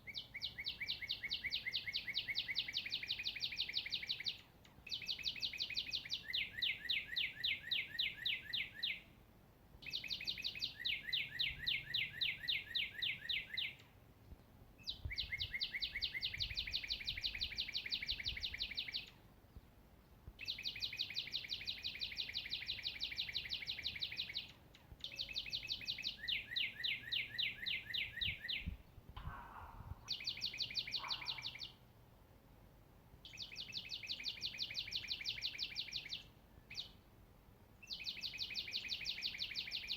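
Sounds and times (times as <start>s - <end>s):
songbird trilling: 0.0s - 9.1s, 9.8s - 13.9s, 14.8s - 19.2s, 20.4s - 31.8s, 33.2s - 37.0s, 37.8s - 39.9s.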